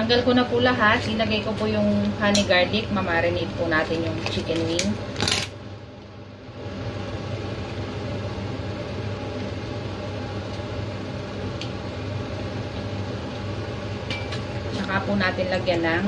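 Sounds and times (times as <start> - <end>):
motor hum with low buzz: 0.0 - 16.0.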